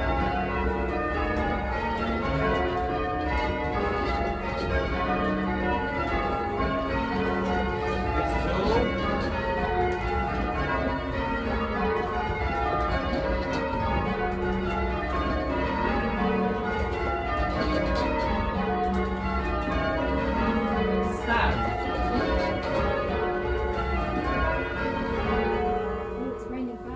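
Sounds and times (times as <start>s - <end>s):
church bells change-ringing: 0.0s - 26.9s.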